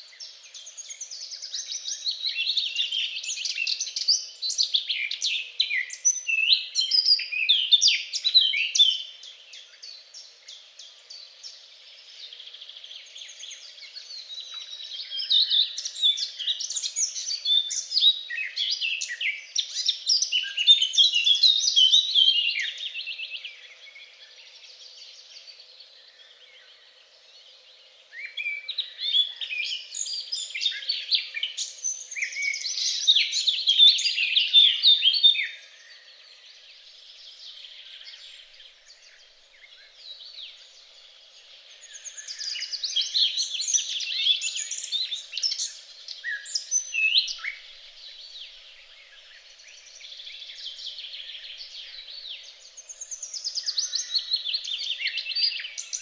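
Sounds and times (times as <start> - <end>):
quiet bird chirping: 0.0 - 56.0
songbirds twittering song: 0.0 - 56.0.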